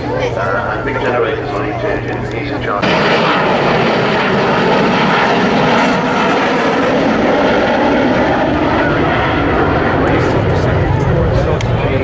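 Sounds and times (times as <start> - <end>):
jet bomber flying past: 0.0 - 12.0.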